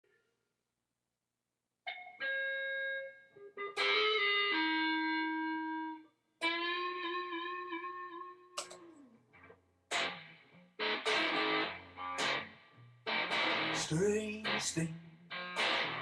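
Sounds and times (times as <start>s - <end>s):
slow electric guitar: 1.9s - 16.0s.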